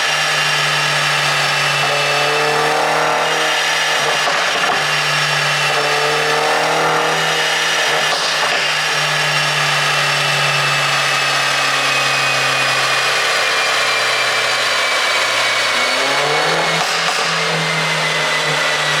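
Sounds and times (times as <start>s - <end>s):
car engine running and revving: 0.0s - 19.0s.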